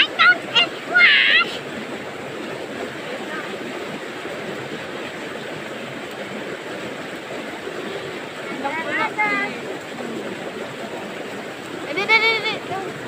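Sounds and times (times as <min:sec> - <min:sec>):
fast-flowing river rushing: 0:00.0 - 0:13.0.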